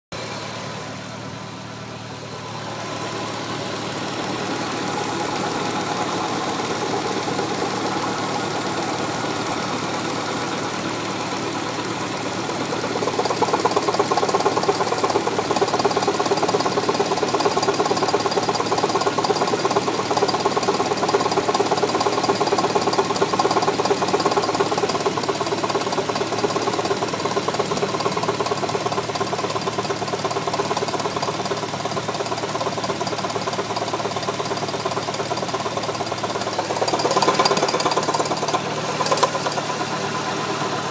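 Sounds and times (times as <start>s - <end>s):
car engine running: 0.2s - 40.9s
rapid engine knocking: 2.8s - 40.9s.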